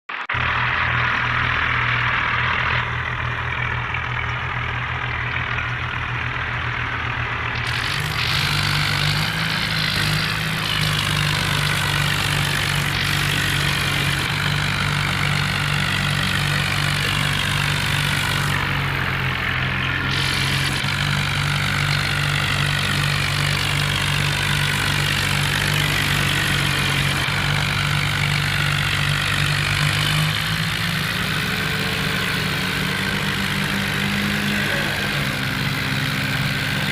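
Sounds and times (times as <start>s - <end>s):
tractor diesel engines running: 0.1s - 36.9s.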